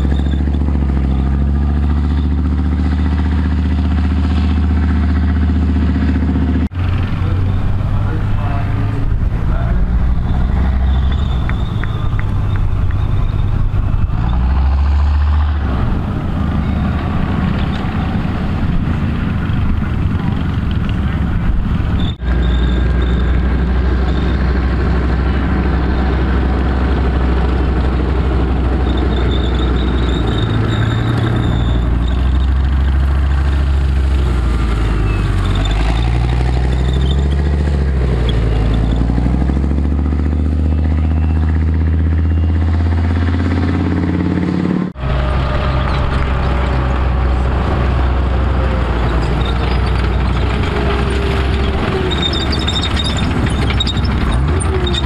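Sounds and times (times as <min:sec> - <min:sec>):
military vehicle engine running: 0:00.0 - 0:55.0.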